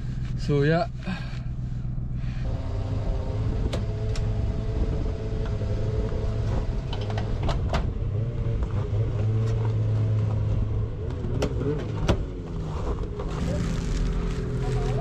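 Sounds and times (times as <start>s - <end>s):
wind rumble on microphone: 1.6s - 15.0s.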